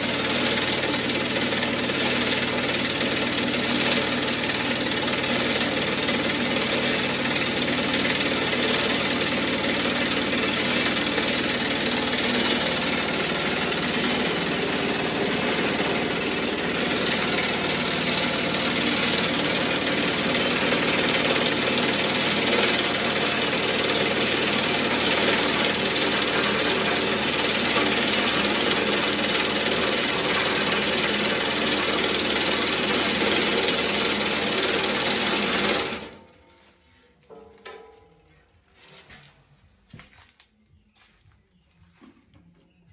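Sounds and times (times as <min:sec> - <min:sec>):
vibrating sieve humming and rattling: 0:00.0 - 0:39.2.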